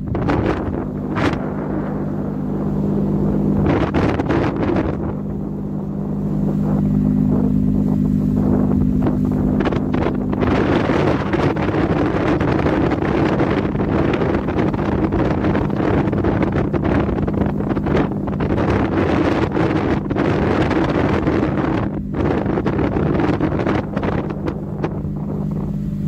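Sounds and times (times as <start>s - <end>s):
ship engine humming: 0.0s - 26.0s
wind buffeting microphone: 0.0s - 26.0s.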